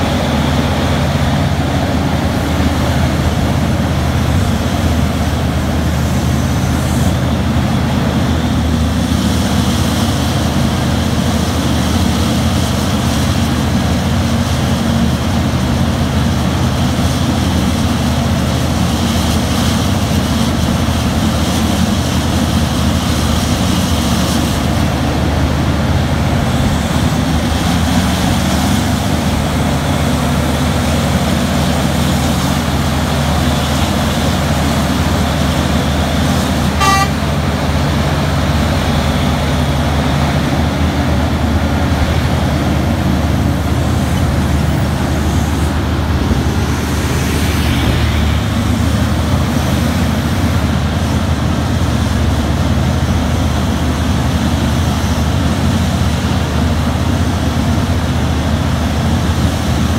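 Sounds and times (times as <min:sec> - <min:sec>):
excavator engine droning: 0:00.0 - 0:59.9.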